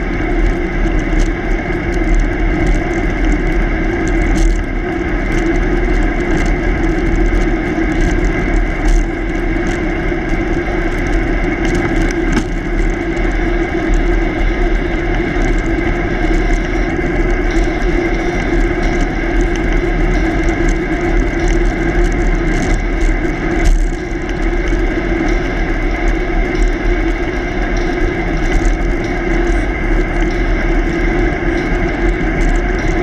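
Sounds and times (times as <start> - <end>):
tyre rolling on asphalt: 0.2 - 33.0.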